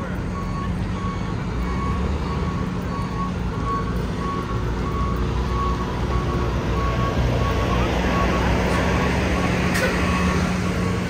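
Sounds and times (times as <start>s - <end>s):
reversing alarm beeping: 0.0s - 11.0s
rumble of engines and traffic: 0.0s - 11.0s.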